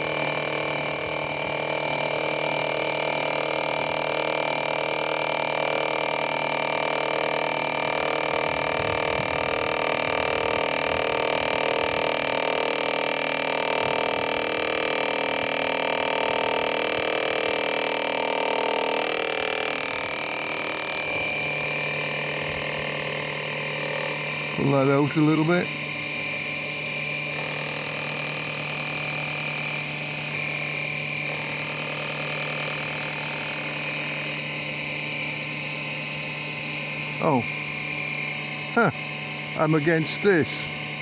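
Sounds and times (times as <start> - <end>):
lathe motor whining: 0.0 - 41.0.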